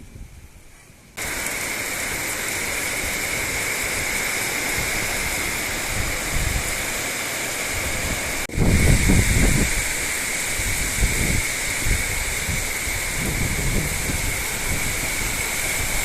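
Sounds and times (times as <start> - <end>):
heavy rain pouring: 1.1 - 16.0.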